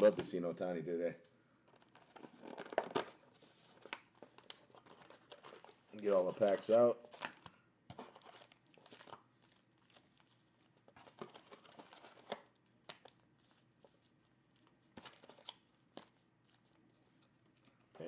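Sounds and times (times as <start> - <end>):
foil wrappers crinkling: 1.7 - 18.0.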